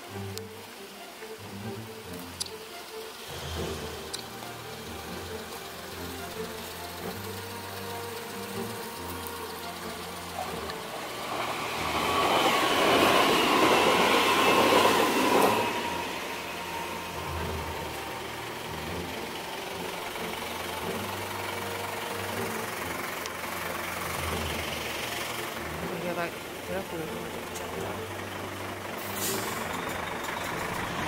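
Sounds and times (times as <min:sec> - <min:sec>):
background road noise: 0:00.0 - 0:31.0
vehicle passing close by: 0:03.2 - 0:31.0.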